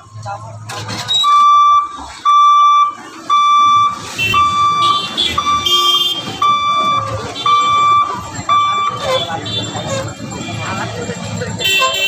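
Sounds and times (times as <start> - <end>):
level crossing warning beeps: 1.1 - 11.6.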